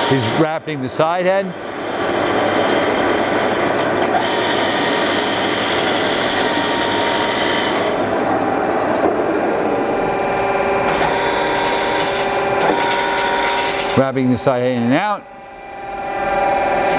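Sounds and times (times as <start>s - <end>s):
lathe hum and whine: 0.0s - 16.9s.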